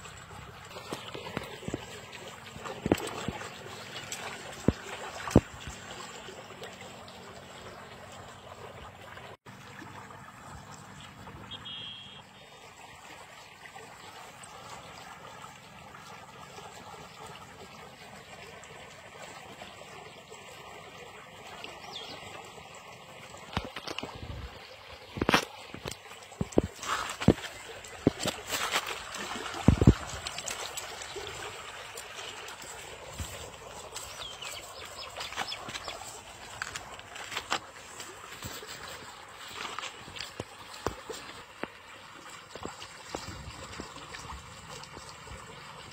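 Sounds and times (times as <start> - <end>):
water rushing in stream: 0.0 - 45.9.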